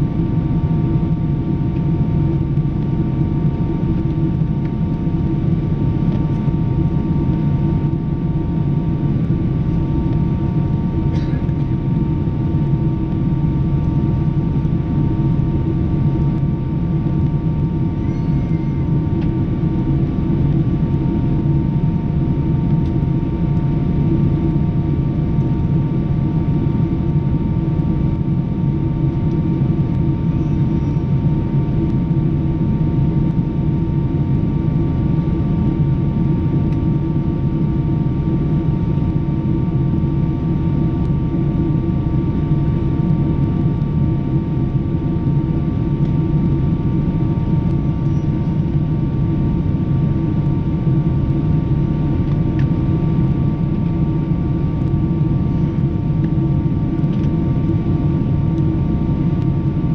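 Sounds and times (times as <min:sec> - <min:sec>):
jet engine drone: 0:00.0 - 0:59.9.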